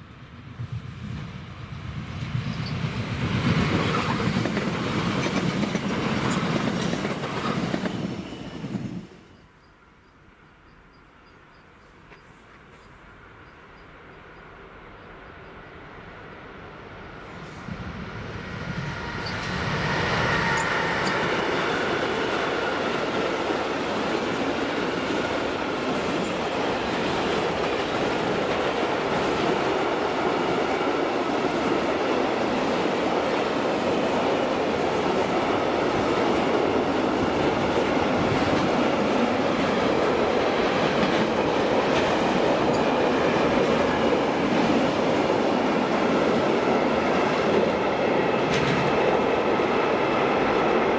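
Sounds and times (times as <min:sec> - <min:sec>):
train wheels on rails: 0:00.0 - 0:09.8, 0:16.9 - 0:50.9.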